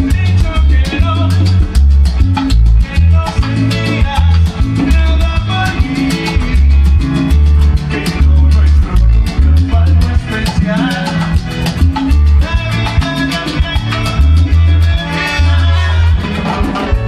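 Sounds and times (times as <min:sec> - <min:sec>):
heavy bass line: 0:00.0 - 0:17.0
percussion rhythm: 0:00.0 - 0:17.0.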